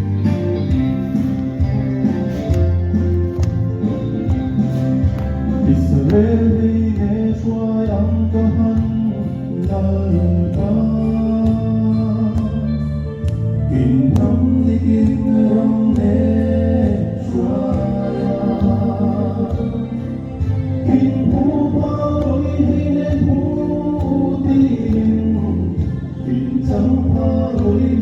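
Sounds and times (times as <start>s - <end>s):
gospel song with guitar and bass: 0.0s - 28.0s.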